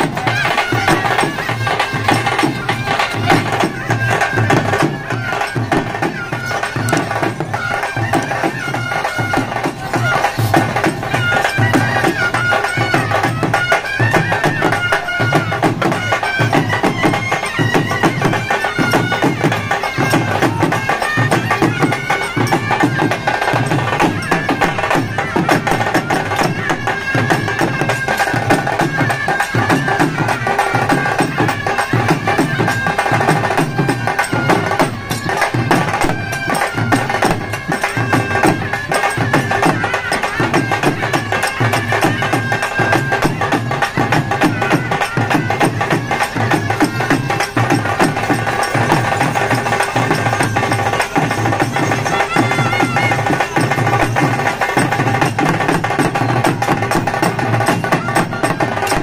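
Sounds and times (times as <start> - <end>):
large drums beating: 0.0 - 59.0
nasal reed wind instrument: 0.0 - 59.0.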